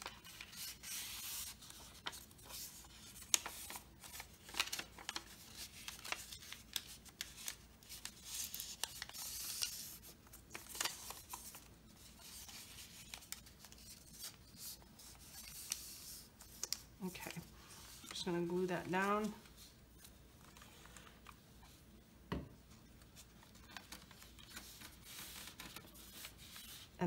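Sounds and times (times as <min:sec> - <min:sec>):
paper rustling and folding: 0:00.0 - 0:27.0.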